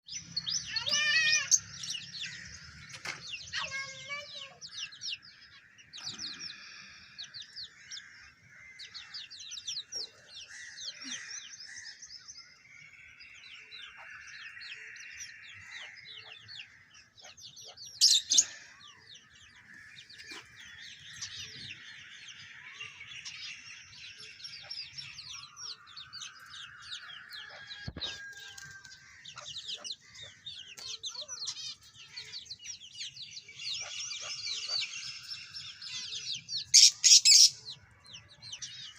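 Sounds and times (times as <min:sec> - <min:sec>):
birds chirping in chorus: 0:00.0 - 0:38.9.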